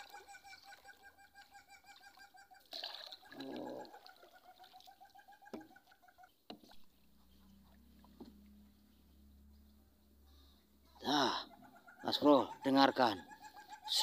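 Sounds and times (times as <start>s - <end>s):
rapid pulsed animal call: 0.0s - 6.4s, 7.1s - 14.0s.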